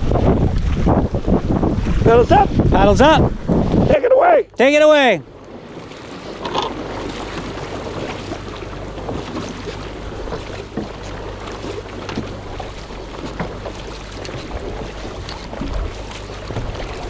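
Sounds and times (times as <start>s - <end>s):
wind on microphone: 0.0s - 4.6s, 5.2s - 17.0s
paddles splashing through water: 0.0s - 17.0s.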